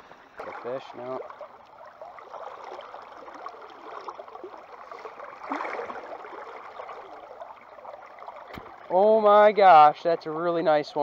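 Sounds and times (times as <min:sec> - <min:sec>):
creek water rushing and gurgling: 0:00.0 - 0:11.0.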